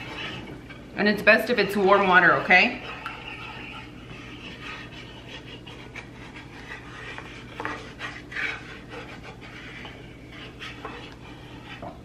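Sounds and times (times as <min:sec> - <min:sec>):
low steady hum: 0:00.0 - 0:12.0
wooden spoon scraping skillet: 0:00.0 - 0:12.0.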